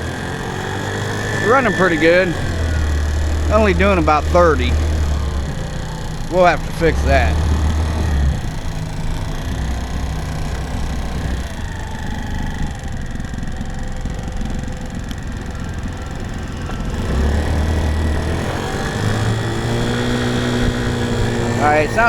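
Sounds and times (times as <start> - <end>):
scooter engine running: 0.0 - 22.0.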